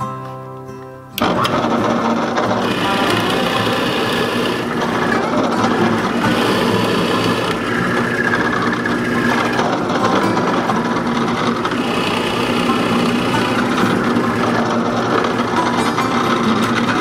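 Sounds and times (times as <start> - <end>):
drill press boring into wood: 1.2 - 17.0.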